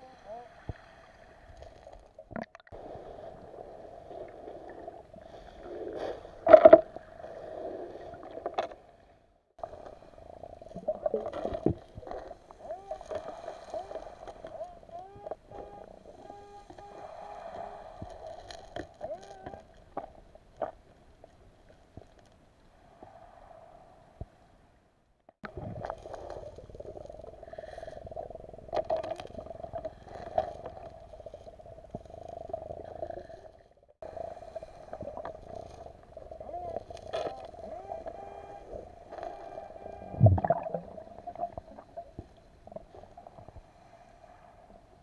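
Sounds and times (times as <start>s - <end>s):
steady underwater hum: 0.0s - 45.0s.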